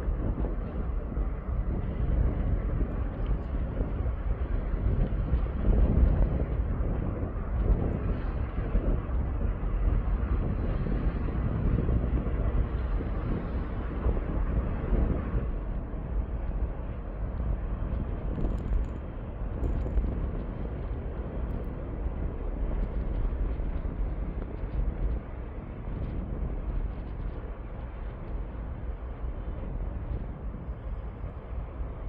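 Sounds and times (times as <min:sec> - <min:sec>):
low outdoor rumble: 0:00.0 - 0:32.0
wind buffeting microphone: 0:00.0 - 0:32.0.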